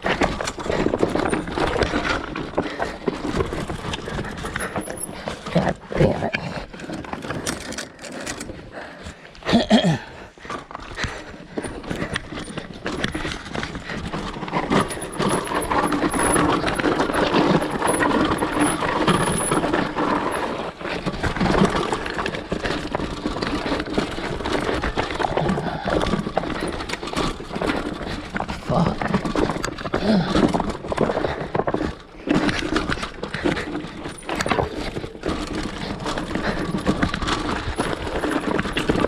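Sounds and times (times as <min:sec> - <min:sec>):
bike rattling on rocky trail: 0:00.0 - 0:39.0.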